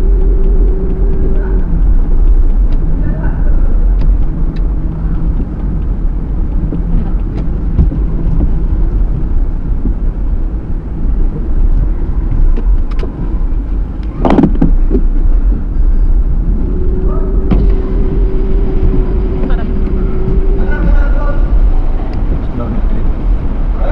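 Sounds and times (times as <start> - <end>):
car engine and tyres rumbling: 0.0 - 23.9.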